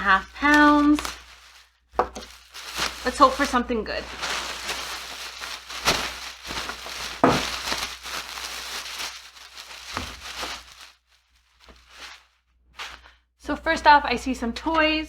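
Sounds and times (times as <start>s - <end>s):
bag rustling and crinkling: 0.0s - 13.2s.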